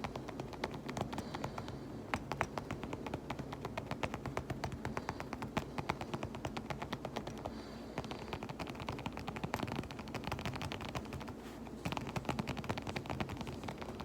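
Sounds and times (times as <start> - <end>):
fast tapping on fabric pouch: 0.0 - 14.0.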